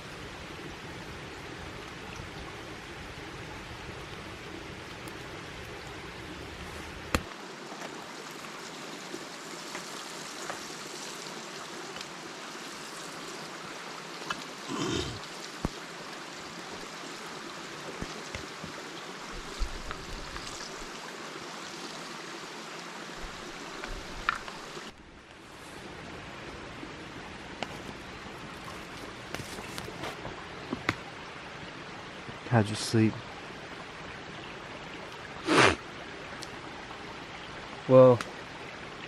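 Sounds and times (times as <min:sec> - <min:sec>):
water flowing: 0:00.0 - 0:39.0.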